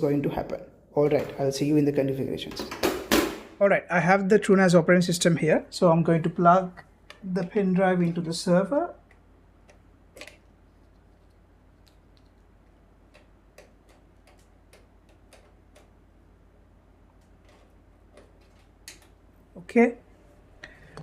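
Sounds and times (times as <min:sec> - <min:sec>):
low steady hum: 0:03.4 - 0:21.0.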